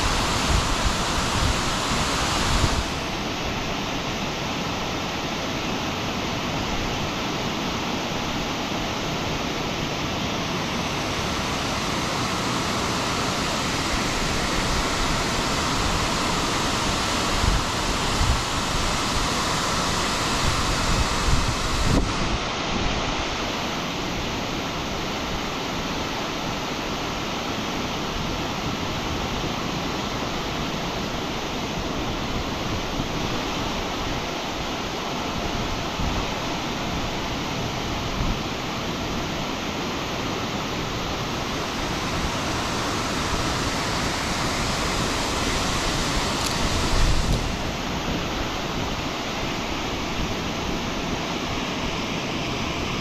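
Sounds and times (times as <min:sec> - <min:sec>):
fast-flowing water rushing: 0:00.0 - 0:53.0.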